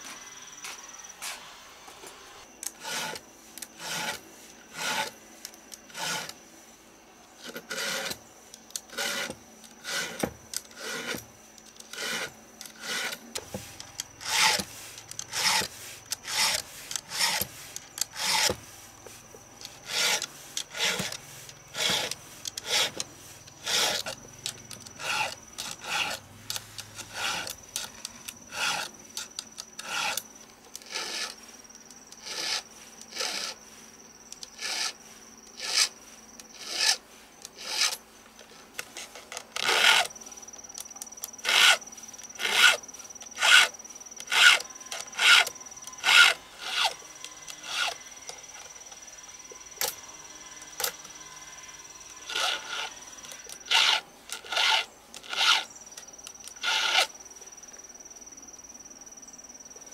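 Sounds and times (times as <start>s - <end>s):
hand tool scraping: 2.6s - 6.4s, 7.4s - 40.6s, 41.2s - 49.0s, 49.8s - 57.2s.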